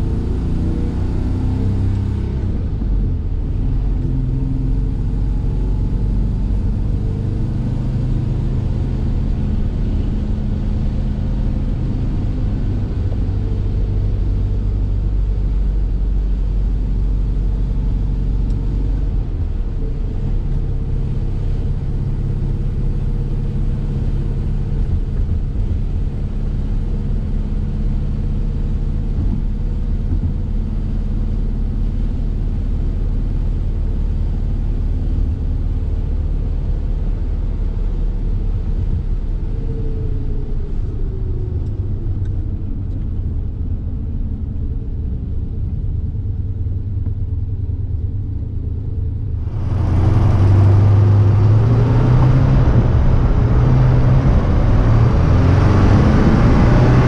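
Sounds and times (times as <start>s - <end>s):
road and tyre rumble: 0.0s - 57.0s
car engine running: 1.7s - 57.0s.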